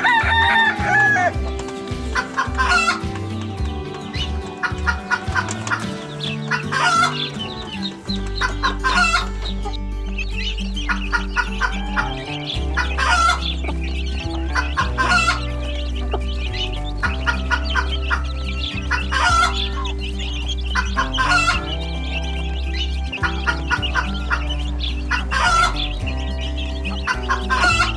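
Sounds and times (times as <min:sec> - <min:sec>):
chickens clucking: 0:00.0 - 0:27.9
music with stepping bass line: 0:00.0 - 0:27.9.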